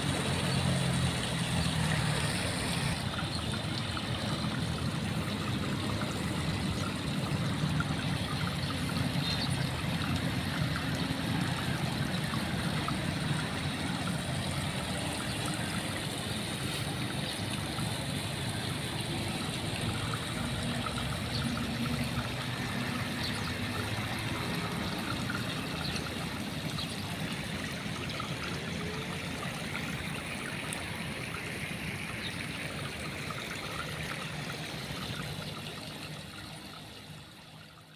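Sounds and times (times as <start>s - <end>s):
water trickling: 0.0s - 37.9s.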